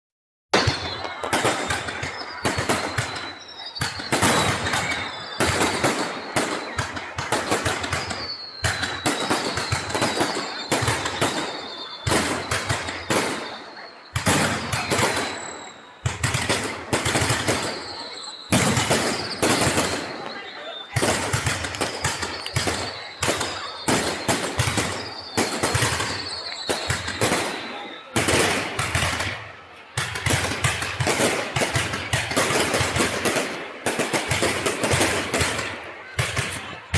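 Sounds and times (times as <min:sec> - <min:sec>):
fireworks bangs and crackles: 0:00.5 - 0:36.9
fireworks whistling downward: 0:00.5 - 0:36.9.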